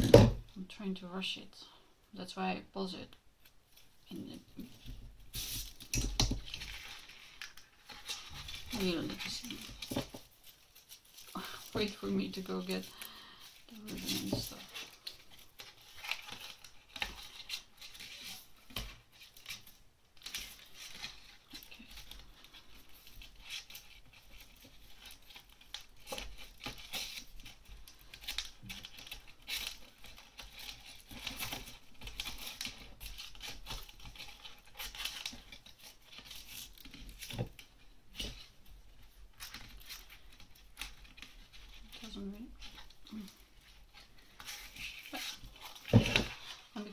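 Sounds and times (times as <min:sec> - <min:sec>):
plastic ribbon crinkling: 0:03.4 - 0:46.9.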